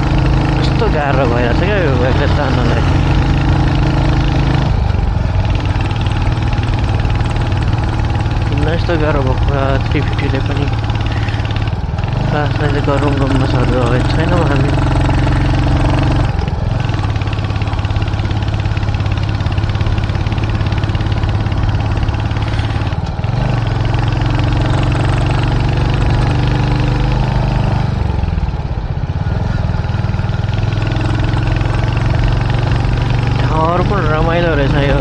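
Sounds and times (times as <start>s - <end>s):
motorcycle engine labouring: 0.0s - 35.0s.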